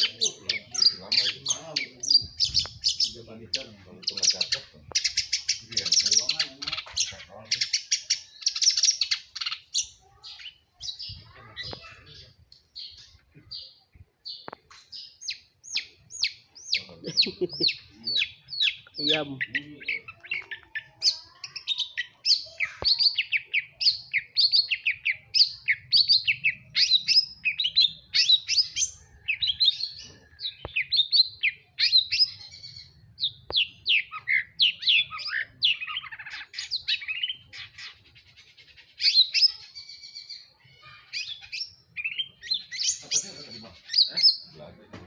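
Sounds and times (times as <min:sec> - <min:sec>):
bird chirping rapidly: 0:00.0 - 0:44.8.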